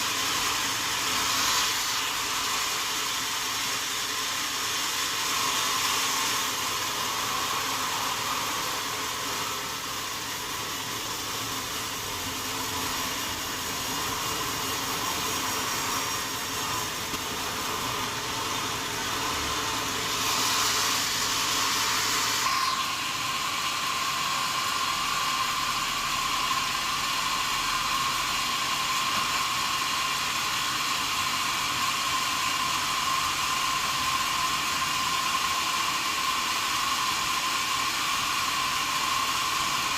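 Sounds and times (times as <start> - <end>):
loud hiss: 0.0 - 39.9
sawmill saw whining: 0.0 - 39.9.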